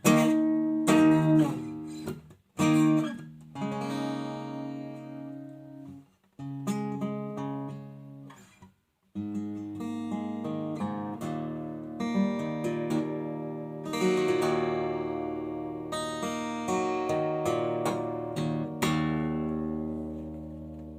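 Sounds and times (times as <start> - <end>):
acoustic guitar strummed and plucked: 0.0 - 20.9.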